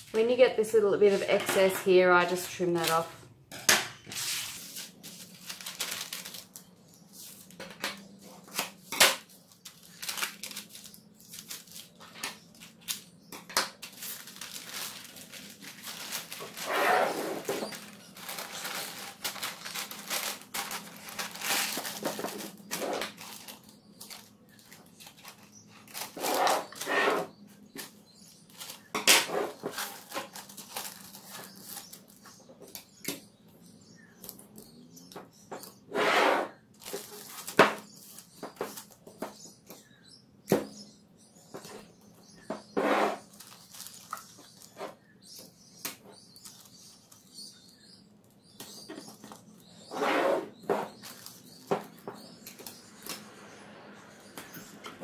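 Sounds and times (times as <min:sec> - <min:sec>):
baking paper rustling and crinkling: 0:00.0 - 0:03.3, 0:04.0 - 0:33.2, 0:36.5 - 0:39.8, 0:41.5 - 0:53.3.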